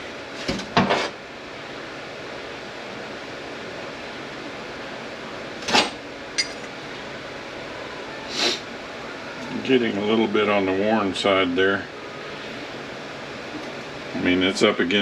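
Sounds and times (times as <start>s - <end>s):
fan hum: 0.0s - 15.0s.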